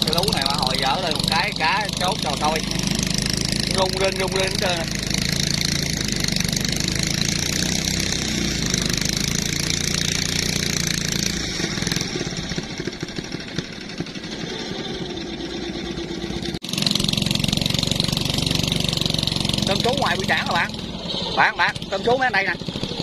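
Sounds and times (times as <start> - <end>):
small engine running: 0.0 - 23.0.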